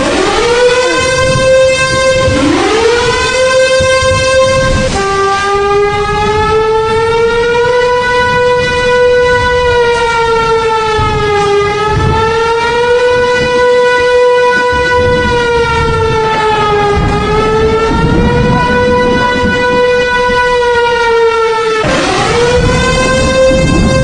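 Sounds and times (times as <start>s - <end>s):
siren wailing: 0.0s - 24.0s
low rumble: 1.2s - 24.0s.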